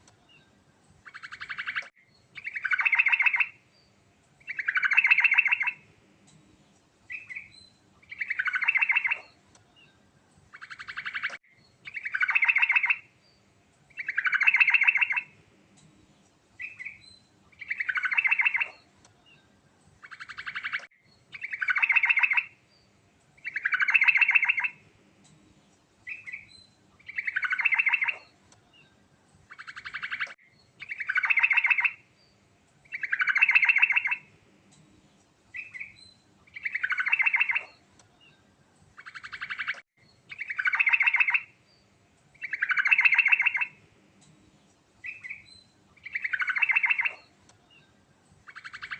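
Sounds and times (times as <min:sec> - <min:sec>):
bulbul singing: 0:00.2 - 0:06.4, 0:07.1 - 0:15.9, 0:16.6 - 0:25.4, 0:26.0 - 0:34.8, 0:35.5 - 0:48.9.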